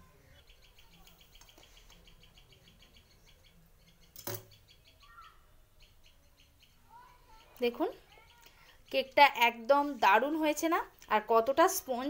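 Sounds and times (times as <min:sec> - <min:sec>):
small bird chirping rapidly: 0:00.1 - 0:11.3.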